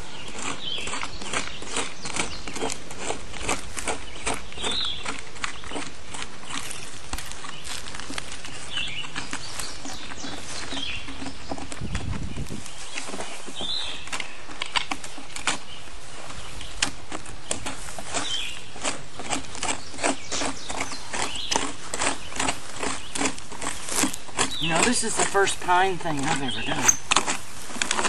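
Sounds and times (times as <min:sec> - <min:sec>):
hand tool scraping a log: 0:00.0 - 0:28.0.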